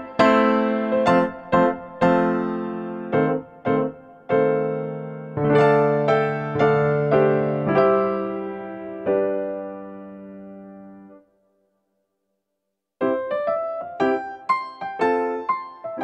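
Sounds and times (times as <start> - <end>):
piano chords: 0.0 - 11.3, 13.0 - 16.0.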